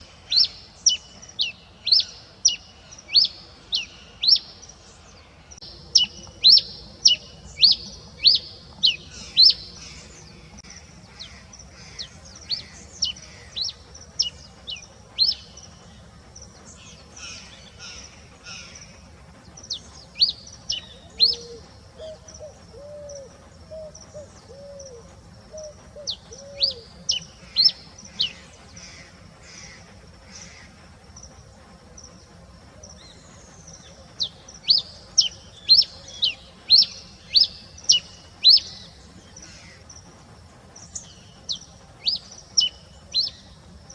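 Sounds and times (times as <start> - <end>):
finch singing: 0.0 - 31.3, 32.1 - 43.9.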